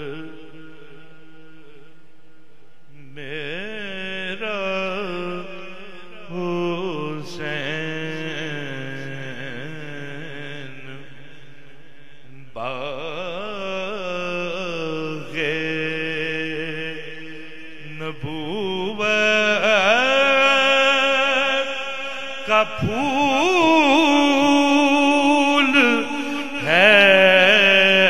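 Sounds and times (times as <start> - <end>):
man singing with vibrato: 0.0 - 2.0, 2.9 - 28.0.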